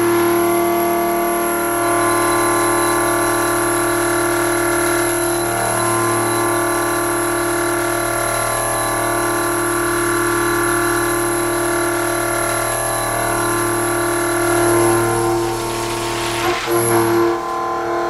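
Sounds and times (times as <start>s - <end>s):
milling machine cutting steel: 0.0s - 18.0s.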